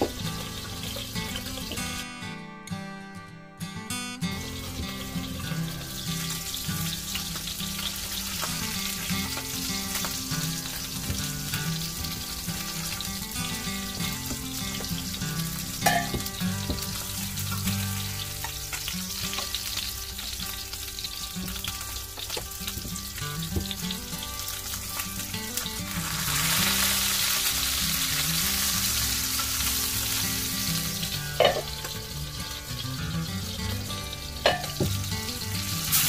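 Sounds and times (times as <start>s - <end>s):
fish sizzling in a pan: 0.0s - 2.0s, 4.3s - 36.0s.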